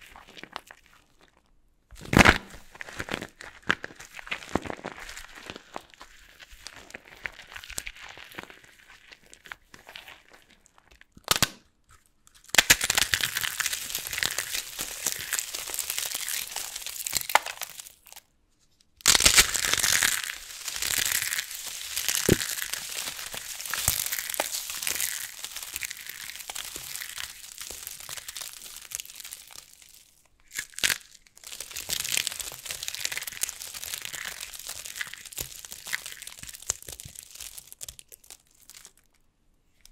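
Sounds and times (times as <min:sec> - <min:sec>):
dry soap crunching and crackling: 0:00.0 - 0:39.9.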